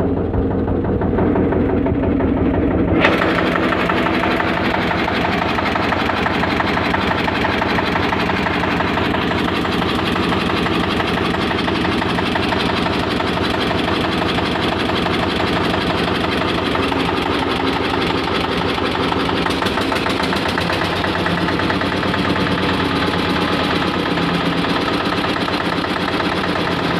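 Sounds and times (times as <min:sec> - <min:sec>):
diesel stationary engine running: 0:00.0 - 0:26.9.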